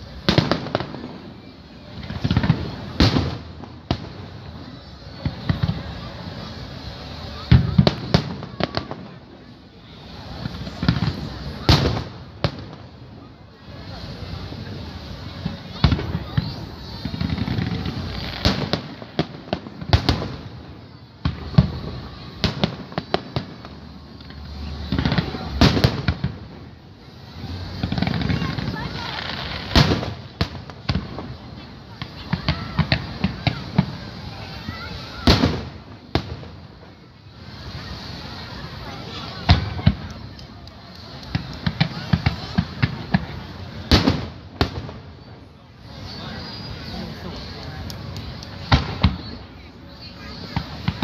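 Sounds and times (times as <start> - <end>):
fireworks bangs: 0.0 - 51.0.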